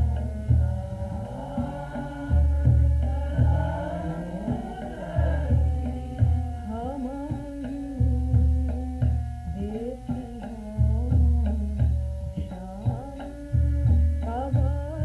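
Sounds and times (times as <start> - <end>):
hand drum strokes: 0.0 - 15.0
sustained melody line: 0.0 - 15.0.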